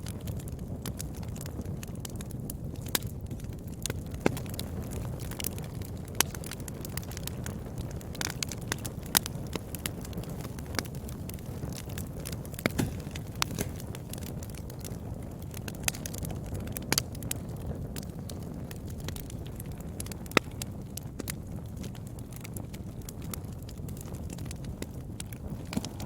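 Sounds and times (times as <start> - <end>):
wood fire crackling: 0.0 - 26.0
fire pops: 0.8 - 26.0.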